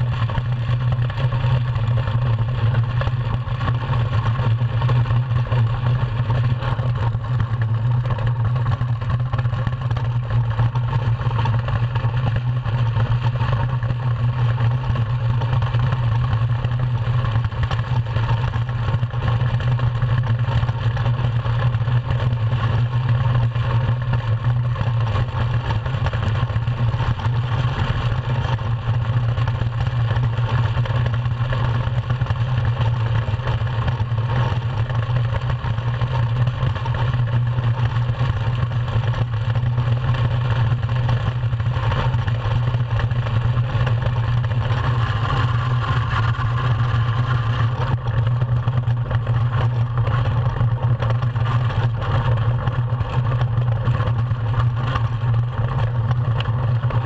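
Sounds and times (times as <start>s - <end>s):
steel runners rumbling over ice: 0.0s - 57.0s.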